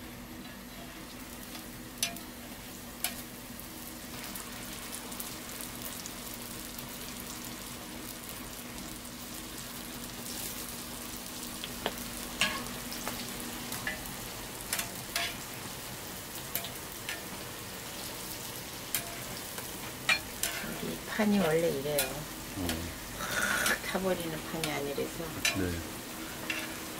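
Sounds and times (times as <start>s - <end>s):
food sizzling in oil: 0.0s - 26.9s.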